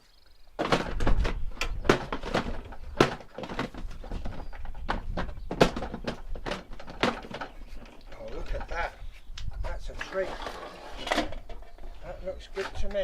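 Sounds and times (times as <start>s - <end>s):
knocks and clatters of parts: 0.6s - 9.7s, 10.4s - 13.0s.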